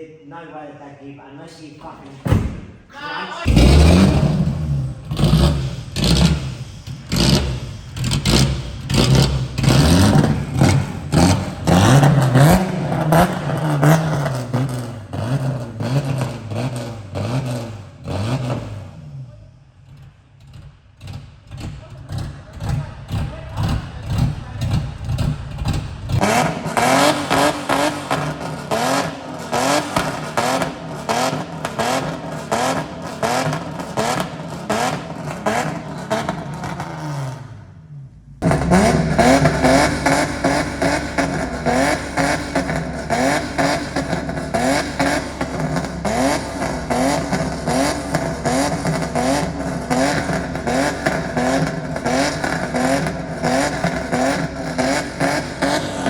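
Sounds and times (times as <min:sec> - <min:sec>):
car engine revving hard: 0:03.4 - 0:56.0.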